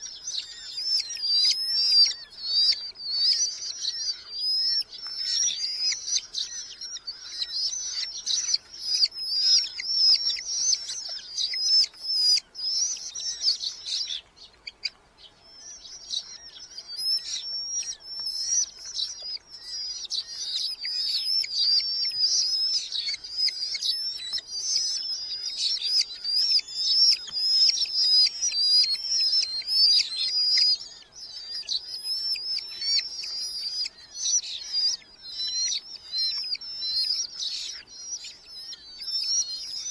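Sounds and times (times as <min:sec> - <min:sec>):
falcons calling shrilly: 0:00.0 - 0:39.9.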